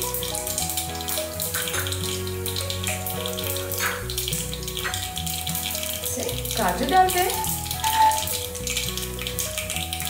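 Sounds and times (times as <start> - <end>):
background music: 0.0 - 10.0
seeds sizzling in hot oil: 0.0 - 10.0.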